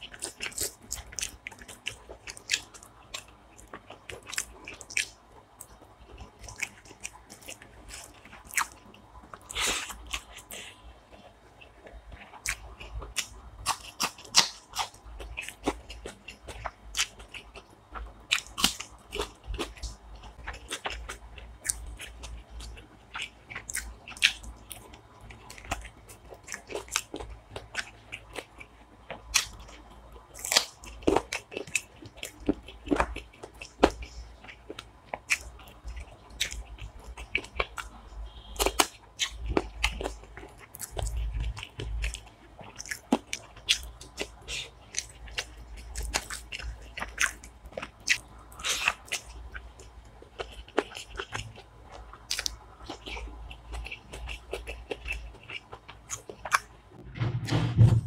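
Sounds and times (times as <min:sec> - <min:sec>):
chewing with wet mouth clicks: 0:00.0 - 0:56.8.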